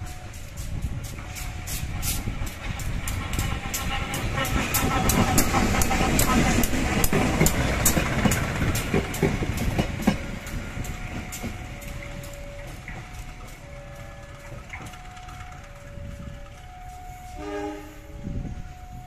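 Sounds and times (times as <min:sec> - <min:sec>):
wheels clicking over rail joints: 0:00.0 - 0:17.4
train rumble passing: 0:00.0 - 0:19.0.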